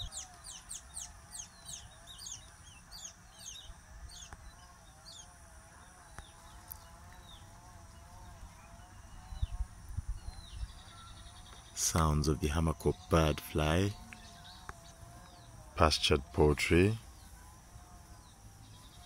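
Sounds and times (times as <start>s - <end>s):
distant chainsaw drone: 0.0s - 19.0s
small birds chirping: 0.0s - 19.0s.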